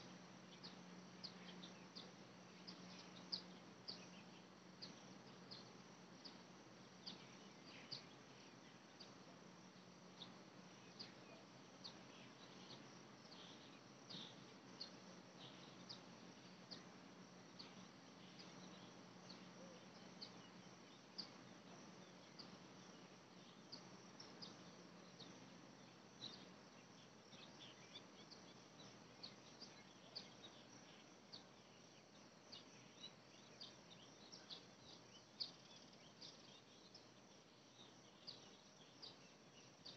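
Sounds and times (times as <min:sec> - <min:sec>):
soft hiss: 0:00.0 - 0:39.9
steady low hum: 0:00.0 - 0:39.9.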